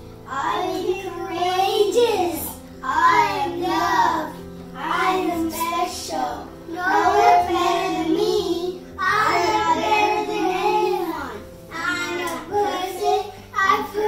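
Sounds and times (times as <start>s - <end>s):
young children singing: 0.3s - 14.0s.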